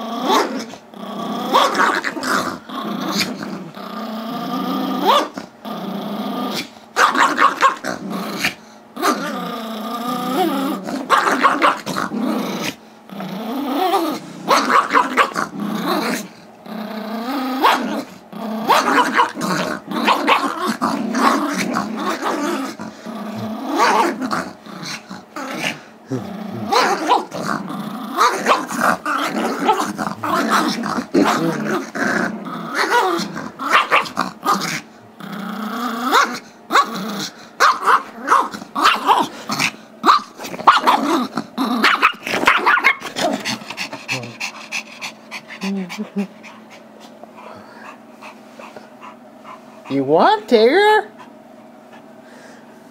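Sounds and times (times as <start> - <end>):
small dogs growling: 0.0 - 50.2.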